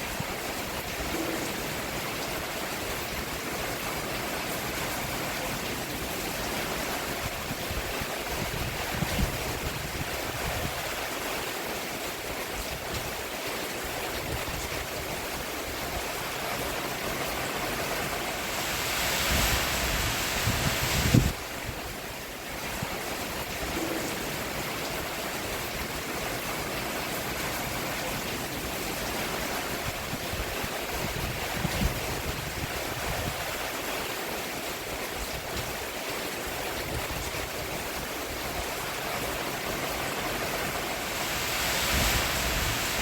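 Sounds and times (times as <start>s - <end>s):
rain on a roof: 0.0s - 43.0s.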